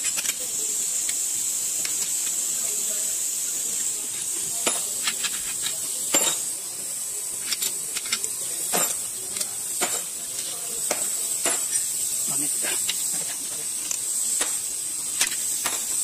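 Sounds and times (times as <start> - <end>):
metallic clicks and clinks: 0.0 - 2.5, 4.1 - 16.0
steady high-pitched hiss: 0.0 - 16.0.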